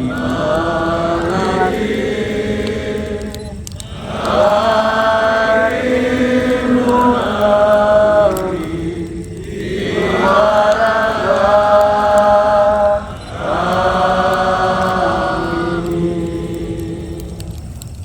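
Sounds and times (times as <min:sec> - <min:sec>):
crowd chanting in unison: 0:00.0 - 0:17.8.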